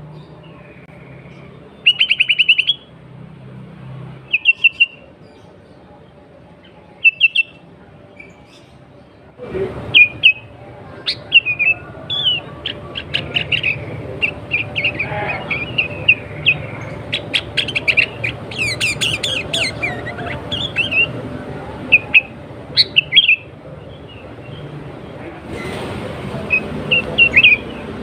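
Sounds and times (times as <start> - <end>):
bird chirping: 0.0 - 2.9, 4.2 - 5.9, 6.6 - 9.1, 9.9 - 21.2, 21.8 - 24.7, 26.4 - 28.0.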